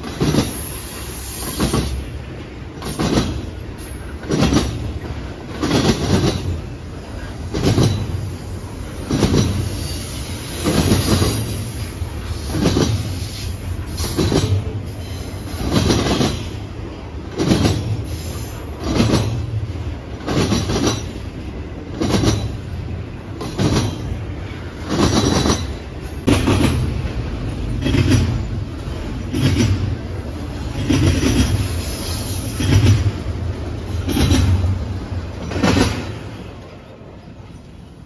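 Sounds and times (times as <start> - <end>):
railroad cars rumbling: 0.0 - 38.0
wheel clatter over rail joints: 1.4 - 9.8, 12.2 - 37.9.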